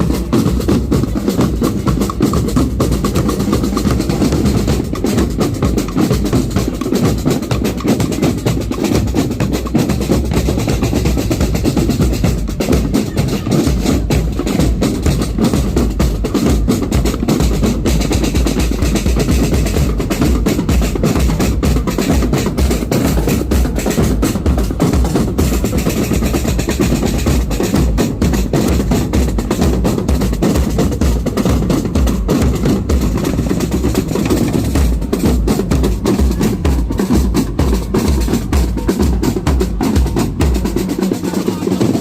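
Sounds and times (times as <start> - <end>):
bass drum beats: 0.0 - 42.0
snare drum strokes and rolls: 0.0 - 42.0.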